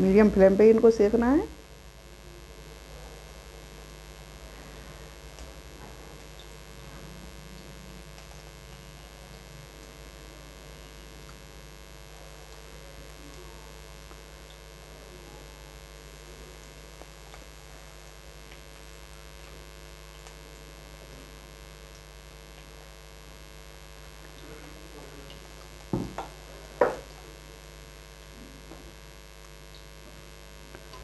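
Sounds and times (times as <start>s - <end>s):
electrical hum: 0.0s - 31.0s
food deep-frying in oil: 0.0s - 31.0s.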